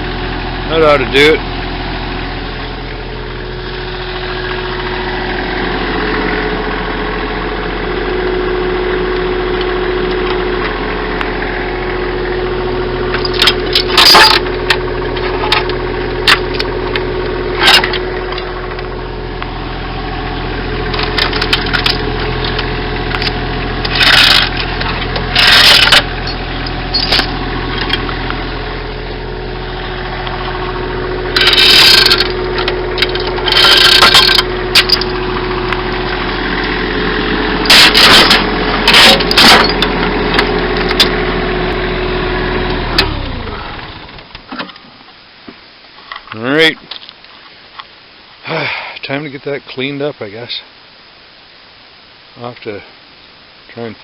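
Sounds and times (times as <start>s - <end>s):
diesel engine idling: 0.0s - 44.5s.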